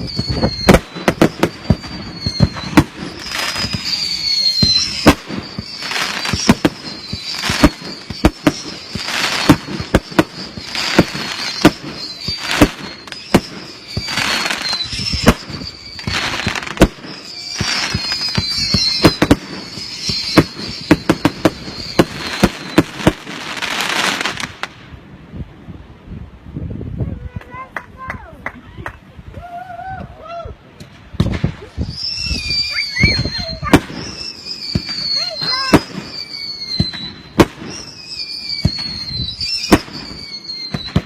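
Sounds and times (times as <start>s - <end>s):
whistling fireworks: 0.0s - 25.0s, 31.0s - 41.0s
fireworks bangs and crackling: 0.0s - 25.6s, 27.0s - 28.5s, 30.8s - 41.0s.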